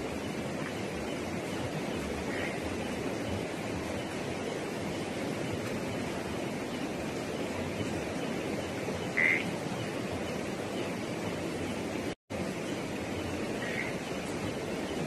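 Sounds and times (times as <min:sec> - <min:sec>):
steady outdoor rush: 0:00.0 - 0:15.0.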